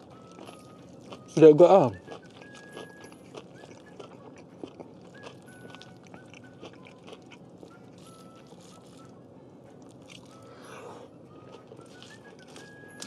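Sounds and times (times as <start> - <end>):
chewing with wet mouth clicks: 0.0 - 9.1, 9.8 - 13.0.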